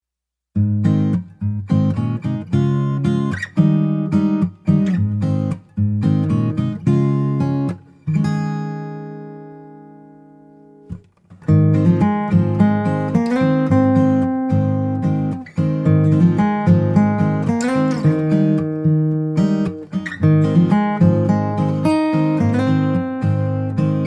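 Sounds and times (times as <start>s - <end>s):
strummed acoustic guitar chords: 0.6s - 24.0s.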